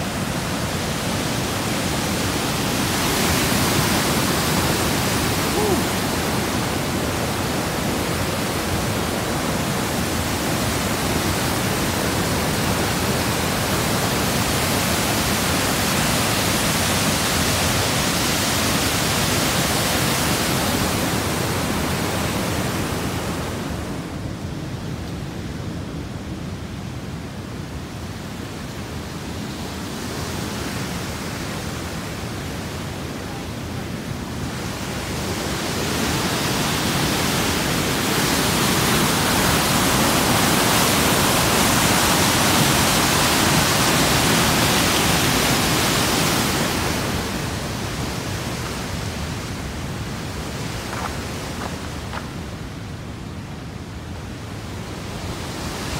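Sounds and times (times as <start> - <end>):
water rushing over rocks: 0.0 - 24.3, 28.2 - 52.6.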